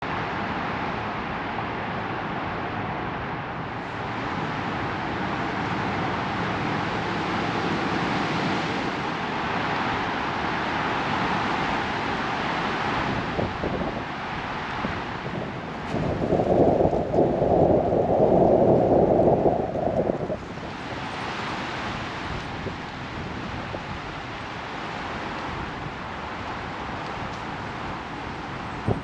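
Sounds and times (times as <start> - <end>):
strong wind blowing: 0.2 - 29.0
wind buffeting microphone: 3.6 - 29.0.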